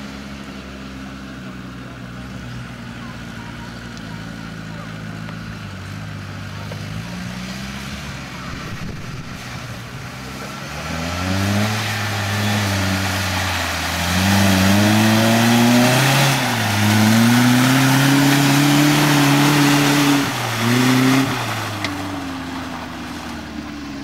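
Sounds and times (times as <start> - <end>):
engine revving hard in mud: 0.0 - 24.0.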